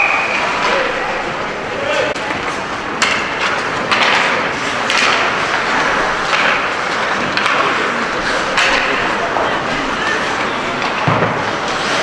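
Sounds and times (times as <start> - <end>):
crowd and arena din: 0.0 - 12.0
pucks and sticks striking boards: 0.0 - 12.0.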